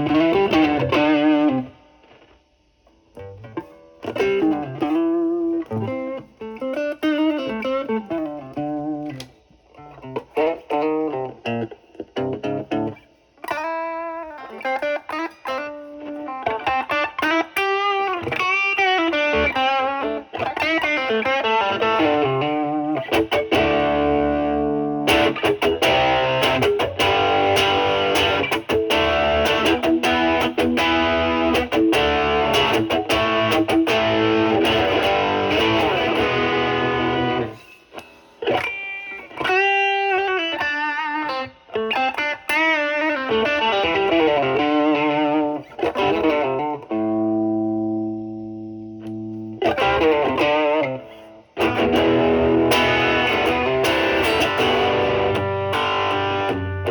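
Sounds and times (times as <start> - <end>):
overdriven electric guitar: 0.0 - 56.9.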